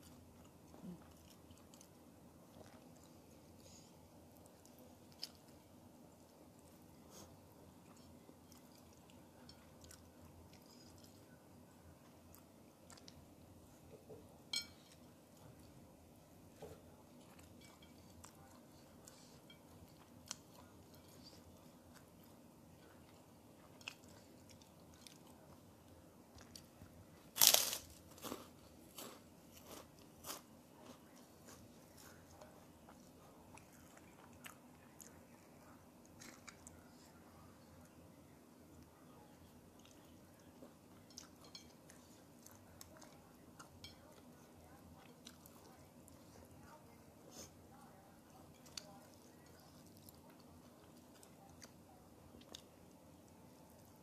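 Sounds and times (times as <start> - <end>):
close-miked chewing: 0.0 - 54.0.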